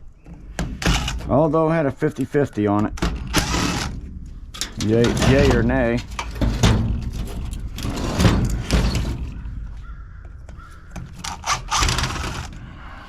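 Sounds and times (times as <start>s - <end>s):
metal parts clanking and scraping: 0.3s - 1.6s, 2.6s - 12.8s.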